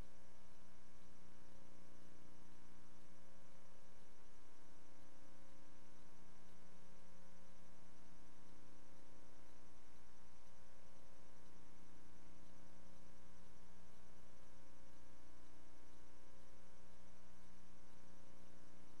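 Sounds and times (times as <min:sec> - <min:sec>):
electrical hum: 0:00.0 - 0:19.0
faint hiss: 0:00.0 - 0:19.0.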